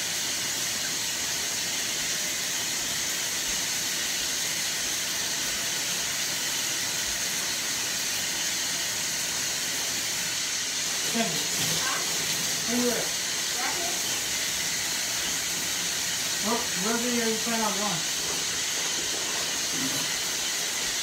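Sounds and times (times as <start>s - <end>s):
shower water running: 0.0s - 21.0s.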